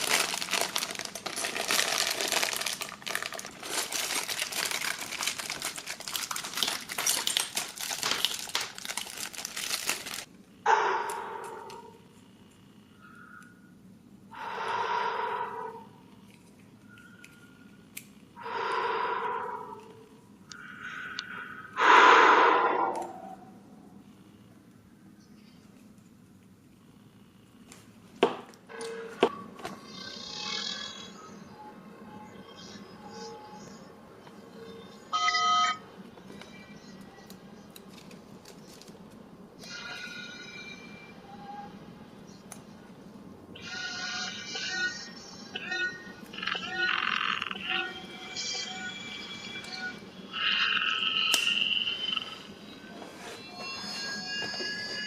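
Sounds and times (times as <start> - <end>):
quiet background music: 0.0 - 18.4, 23.0 - 55.0.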